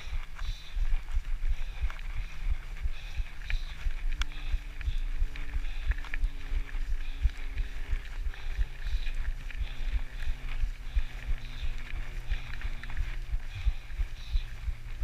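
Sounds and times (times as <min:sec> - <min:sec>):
gravel and chain clicks: 0:00.0 - 0:15.0.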